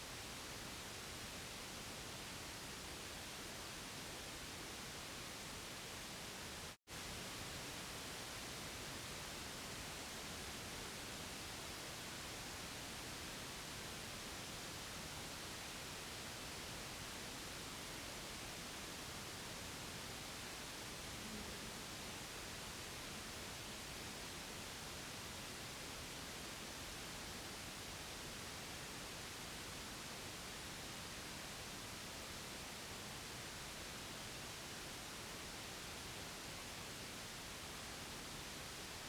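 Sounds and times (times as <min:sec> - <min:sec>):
white noise hiss: 0:00.0 - 0:39.0.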